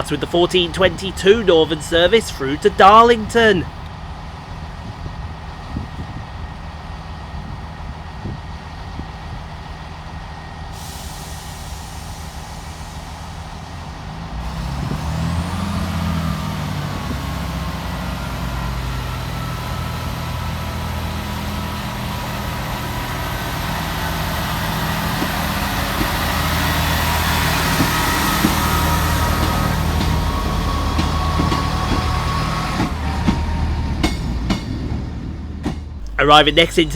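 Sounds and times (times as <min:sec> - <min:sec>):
train diesel engines running: 0:00.0 - 0:36.9.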